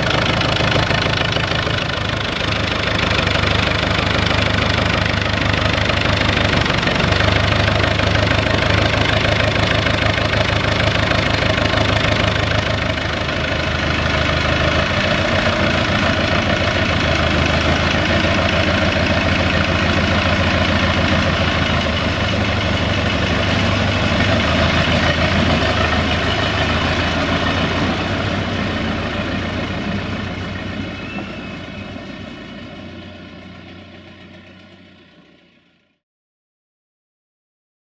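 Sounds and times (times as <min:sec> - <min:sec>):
tractor diesel engine idling: 0:00.0 - 0:36.0.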